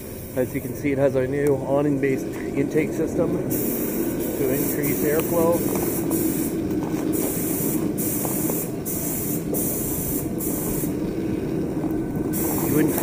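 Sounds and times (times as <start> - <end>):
constant low hum: 0.0 - 13.0
steady airy hiss: 0.0 - 13.0.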